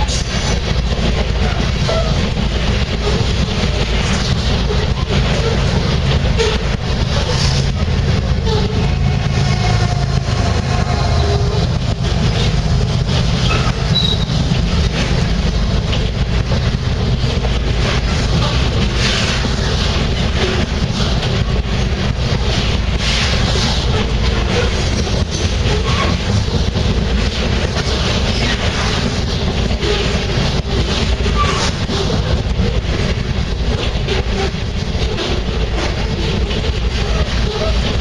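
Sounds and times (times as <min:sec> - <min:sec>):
freight train rumbling past: 0:00.0 - 0:38.0
wheels clicking over rail joints: 0:00.0 - 0:38.0.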